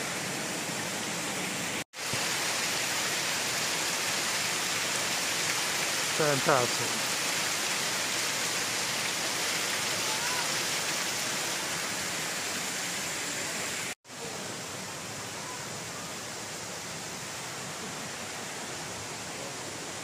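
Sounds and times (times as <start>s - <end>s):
water cascading down rocks: 0.0s - 20.0s.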